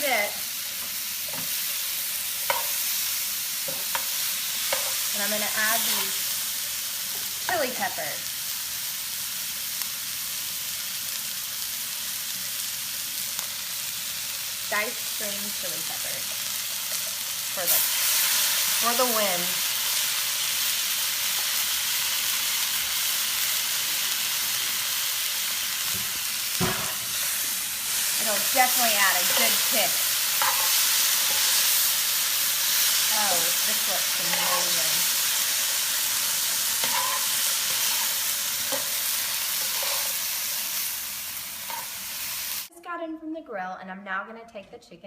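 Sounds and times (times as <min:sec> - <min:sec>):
peppers sizzling in a pan: 0:00.0 - 0:42.9.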